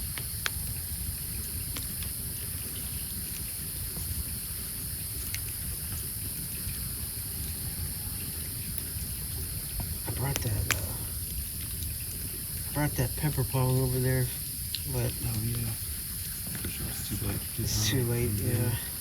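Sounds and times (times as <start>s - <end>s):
fire pops: 0.0s - 7.2s, 8.2s - 19.0s
campfire crackling: 0.0s - 19.0s
high hiss: 0.0s - 19.0s.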